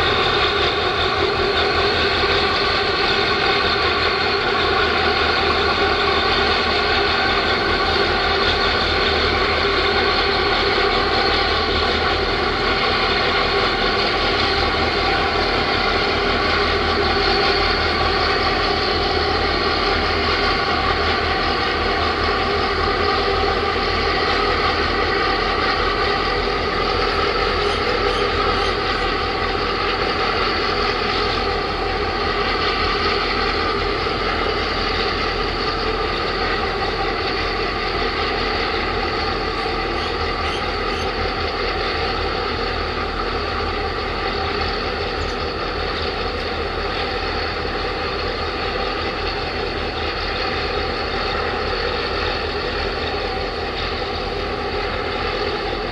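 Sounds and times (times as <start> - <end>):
ship engine drone: 0.0 - 55.9.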